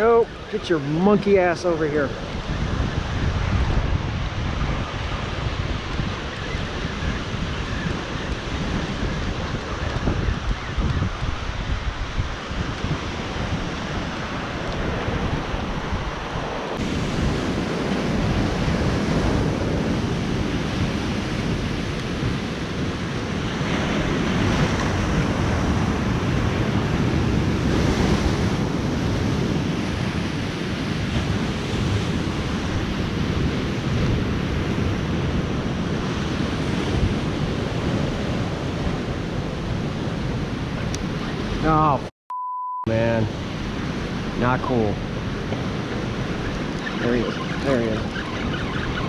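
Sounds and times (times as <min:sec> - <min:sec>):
wind noise on microphone: 0:00.0 - 0:42.1, 0:42.9 - 0:49.0.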